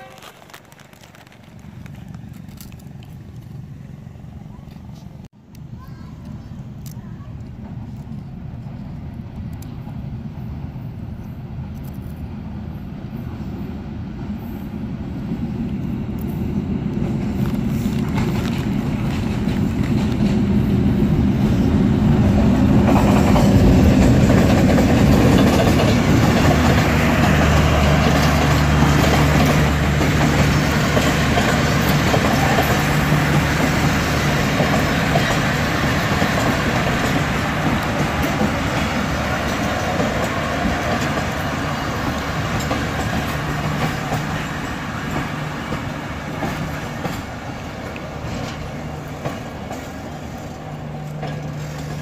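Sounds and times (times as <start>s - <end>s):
diesel locomotive engine drone: 0.0s - 52.0s
train coaches rumbling past: 0.0s - 52.0s.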